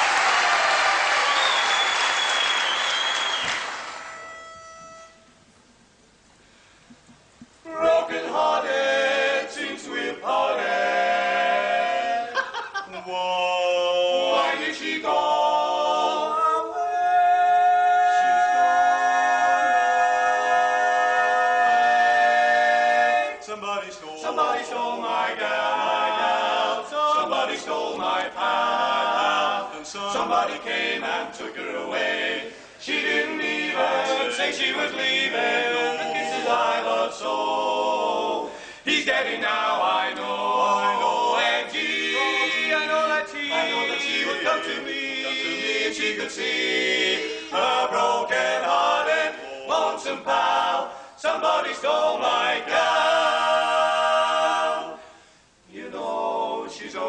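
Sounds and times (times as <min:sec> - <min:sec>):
male vocal quartet singing: 0:07.6 - 0:57.0.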